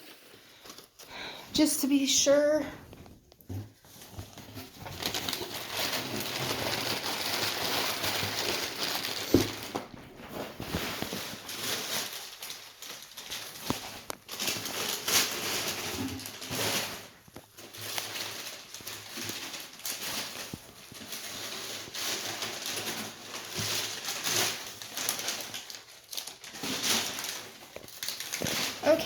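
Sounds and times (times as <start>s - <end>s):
paper rustling and crinkling: 0.0s - 29.0s.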